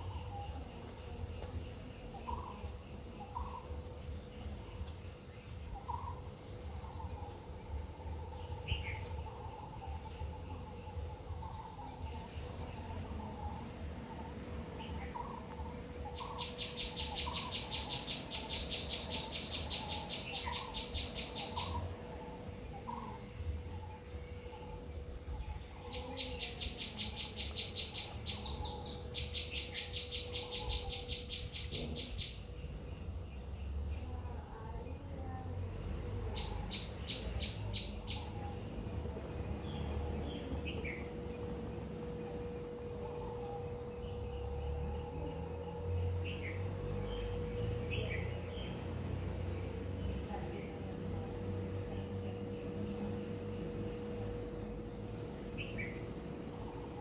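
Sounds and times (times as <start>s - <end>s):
bird calling: 0.0s - 34.8s, 36.2s - 57.0s
low steady rumble: 0.0s - 57.0s.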